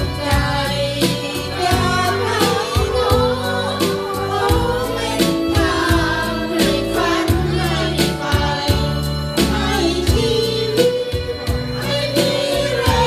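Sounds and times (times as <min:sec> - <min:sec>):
backing track with steady beat: 0:00.0 - 0:13.0
group singing into microphones: 0:00.0 - 0:13.0.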